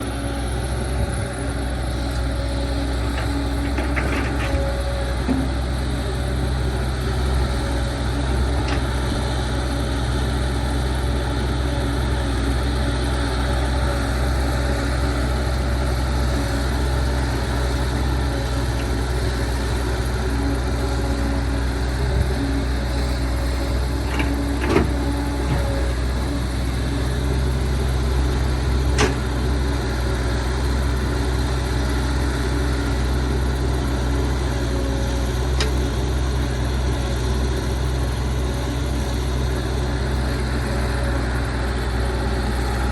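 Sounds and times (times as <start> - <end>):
diesel engine running steadily: 0.0 - 42.9.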